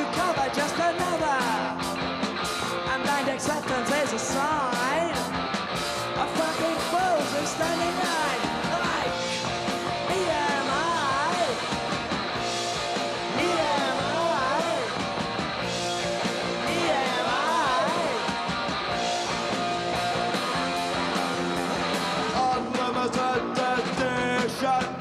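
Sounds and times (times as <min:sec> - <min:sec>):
bass guitar: 0:00.0 - 0:25.0
distorted electric guitar: 0:00.0 - 0:25.0
drums: 0:00.0 - 0:25.0.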